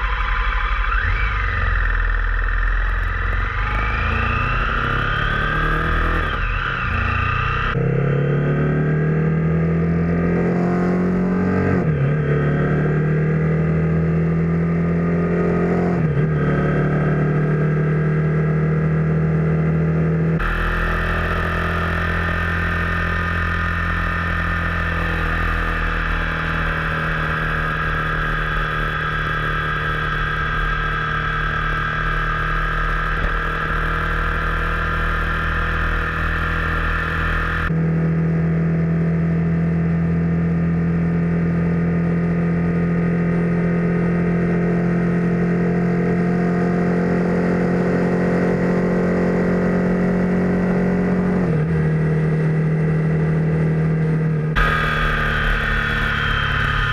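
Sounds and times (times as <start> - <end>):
car engine accelerating: 0.0 - 56.9
road noise: 0.0 - 56.9.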